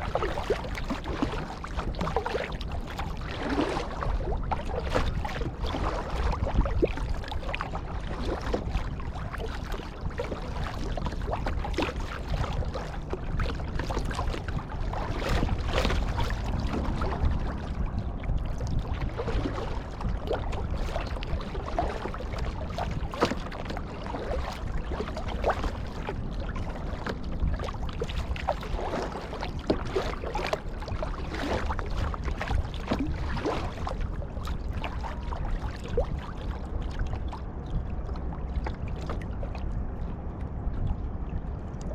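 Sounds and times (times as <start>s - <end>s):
low rumble: 0.0s - 41.9s
paddle splashing in water: 0.0s - 41.9s
water lapping and trickling: 0.0s - 41.9s.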